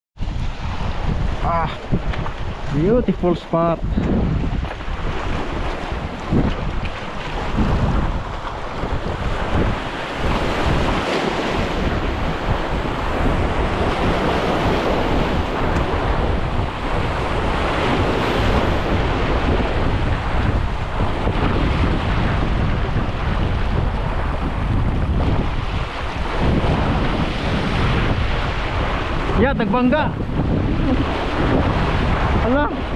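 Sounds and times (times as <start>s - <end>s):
sea waves rushing: 0.2s - 32.9s
wind buffeting microphone: 0.2s - 32.9s.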